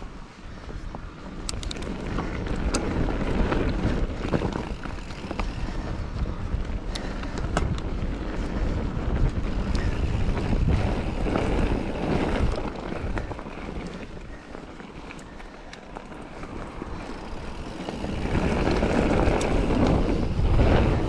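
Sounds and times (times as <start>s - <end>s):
bike clicks and rattles: 0.0s - 21.0s
bike tyres on rough trail: 0.0s - 21.0s
wind rushing over microphone: 0.0s - 21.0s.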